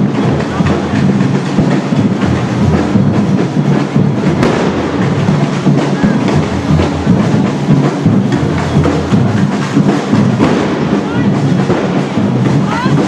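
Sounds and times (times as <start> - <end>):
crowd noise: 0.0 - 13.0
drums playing marching beat: 0.0 - 13.0
sharp bang: 0.0 - 13.0.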